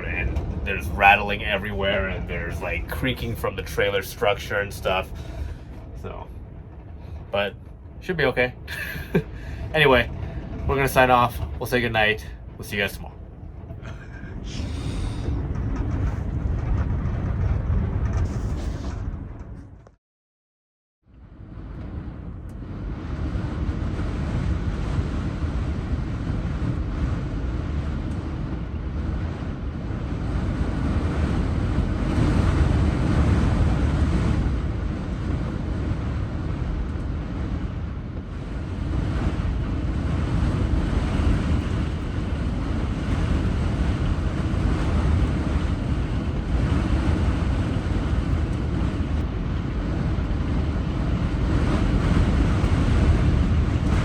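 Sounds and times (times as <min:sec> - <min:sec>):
wind blowing and gusting: 0:00.0 - 0:20.0, 0:21.1 - 0:54.0
wind buffeting on microphone: 0:00.0 - 0:20.0, 0:21.2 - 0:54.0.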